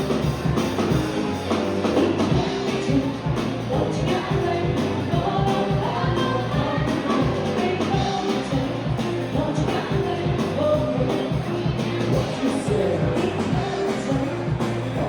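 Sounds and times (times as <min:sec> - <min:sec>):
drums keeping steady beat: 0:00.0 - 0:15.0
live band playing: 0:00.0 - 0:15.0
person singing: 0:01.9 - 0:15.0.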